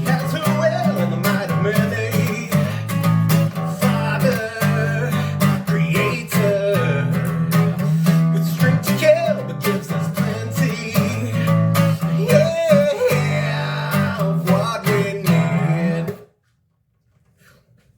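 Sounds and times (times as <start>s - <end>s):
guitar strummed chords: 0.0s - 16.2s
man singing: 0.0s - 16.3s.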